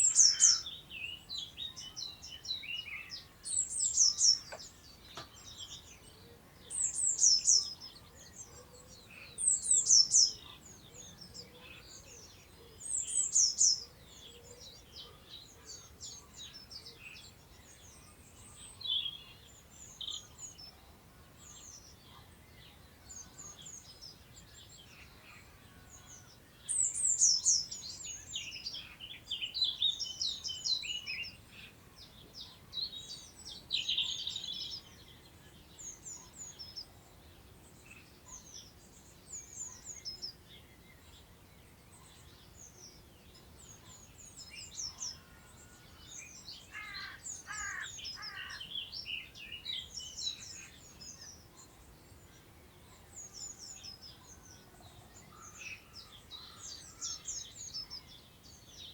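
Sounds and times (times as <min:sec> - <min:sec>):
birds chirping: 0:00.0 - 0:20.7, 0:21.4 - 0:58.9.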